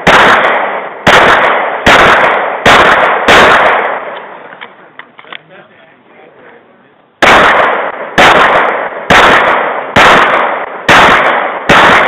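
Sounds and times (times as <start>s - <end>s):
handgun shots echoing: 0.0s - 5.4s, 7.2s - 12.0s.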